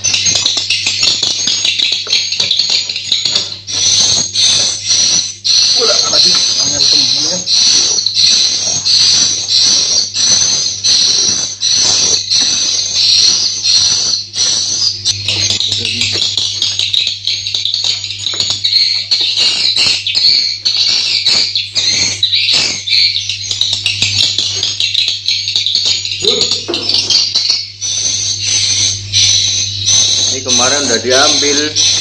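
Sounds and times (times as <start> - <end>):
rapid sharp clicks: 0.0 - 27.6
birds twittering chorus: 0.0 - 32.0
steady low hum: 0.0 - 32.0.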